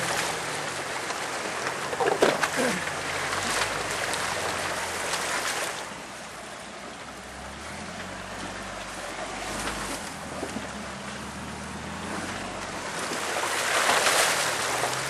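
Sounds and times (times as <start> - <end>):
car engine running low: 0.0 - 15.0
river water rushing and splashing: 0.0 - 15.0.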